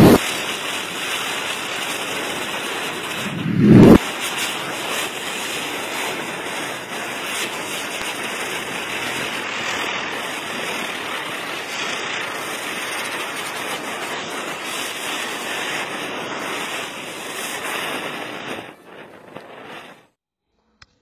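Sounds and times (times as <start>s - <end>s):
firework hissing: 0.0s - 20.2s.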